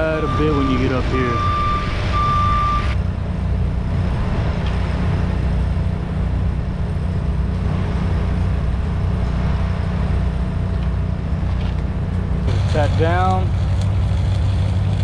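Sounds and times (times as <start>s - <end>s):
heavy machine engine rumbling: 0.0s - 15.0s.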